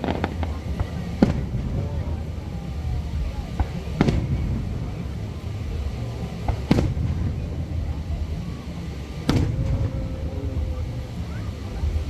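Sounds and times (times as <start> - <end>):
fireworks bursting with loud bangs: 0.0 - 12.0
low rumble: 0.0 - 12.0.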